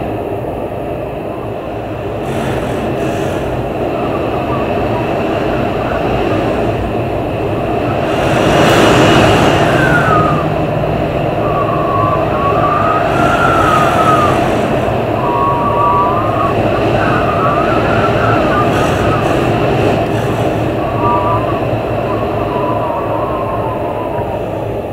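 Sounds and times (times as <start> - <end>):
storm wind gusting: 0.0 - 24.9
thin wavering wind whistle: 0.0 - 24.9.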